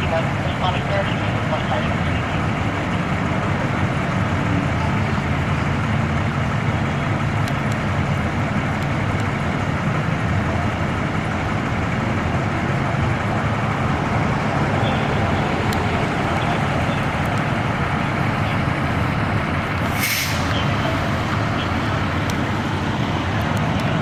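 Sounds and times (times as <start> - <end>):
fire truck engine running: 0.0 - 24.0.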